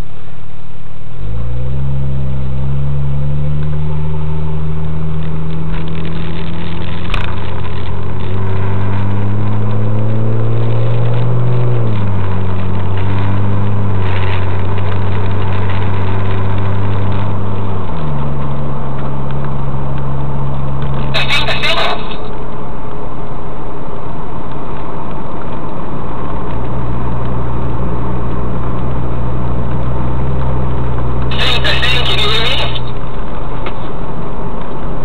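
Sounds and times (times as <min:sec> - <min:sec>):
car engine accelerating: 0:00.6 - 0:35.0.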